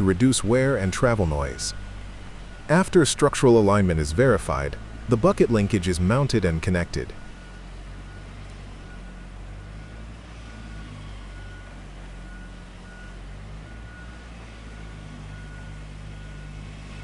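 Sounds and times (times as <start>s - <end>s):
backup alarm beeping: 0.0s - 16.6s
heavy diesel machinery running: 0.0s - 17.0s.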